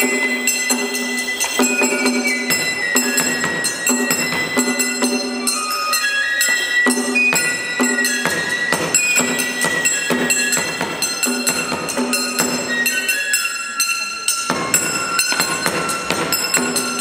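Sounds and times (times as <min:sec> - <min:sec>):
high bamboo flute melody: 0:00.0 - 0:17.0
rapid metallic percussion strikes: 0:00.0 - 0:17.0.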